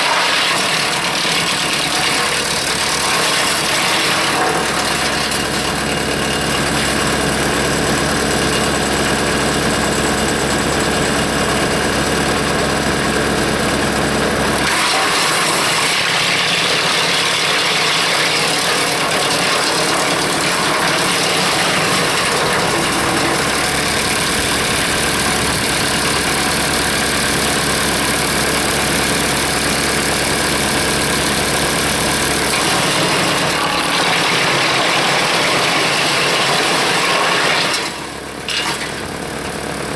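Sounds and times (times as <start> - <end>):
tractor engine: 0.0 - 39.9
wood chipper running: 0.0 - 39.9.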